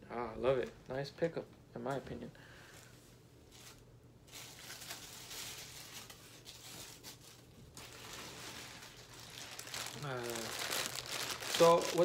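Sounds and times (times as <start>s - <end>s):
faint rustling and handling: 1.8s - 12.0s.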